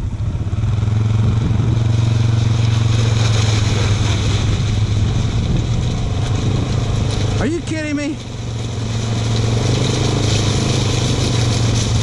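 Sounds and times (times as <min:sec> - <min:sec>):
quad bike engine under throttle: 0:00.0 - 0:12.0.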